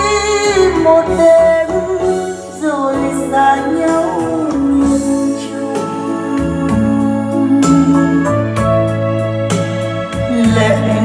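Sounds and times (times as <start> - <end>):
person singing over instruments: 0.0 - 8.9, 10.2 - 11.0.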